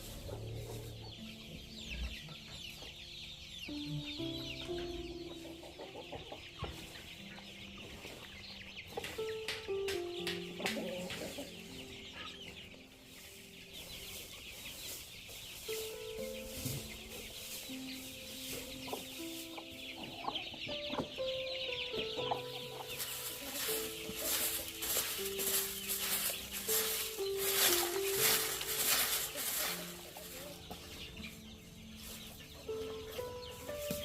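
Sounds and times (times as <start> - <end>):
chickens clucking and chirping: 0.0 - 34.0
slow instrumental music: 0.0 - 34.0.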